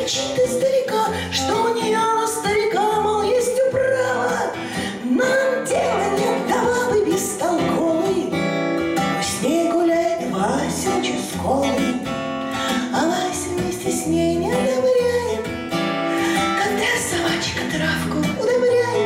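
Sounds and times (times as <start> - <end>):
acoustic guitar: 0.0 - 19.0
woman singing: 0.0 - 19.0.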